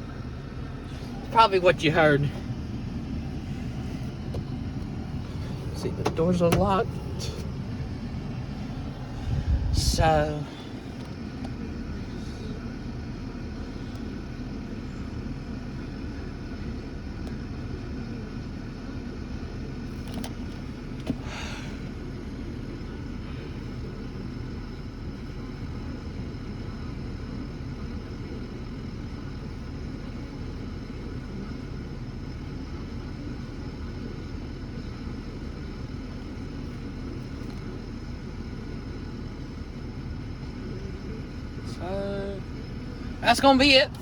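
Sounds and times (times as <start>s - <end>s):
motor vehicle engine rumble: 0.0s - 44.0s.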